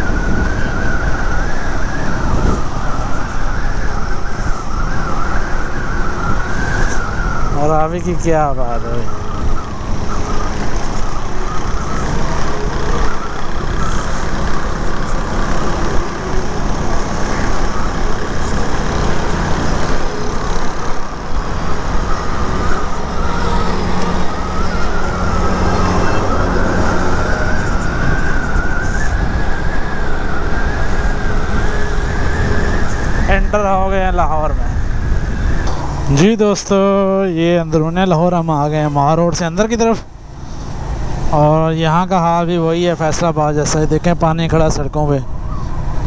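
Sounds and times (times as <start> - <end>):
motorcycle engine: 0.0 - 44.4
wavering high whine: 0.0 - 46.0
wind rush on microphone: 0.0 - 46.0.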